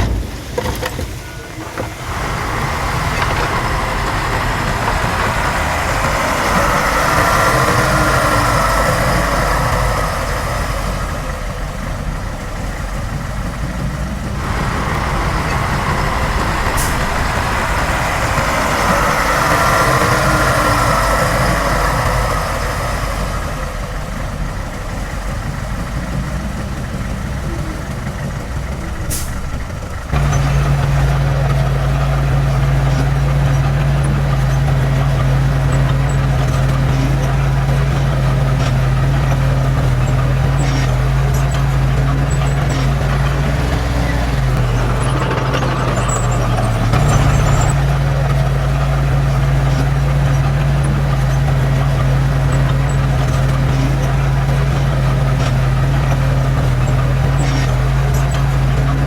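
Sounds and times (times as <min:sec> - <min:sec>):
heavy diesel machine engine: 0:00.0 - 0:59.0.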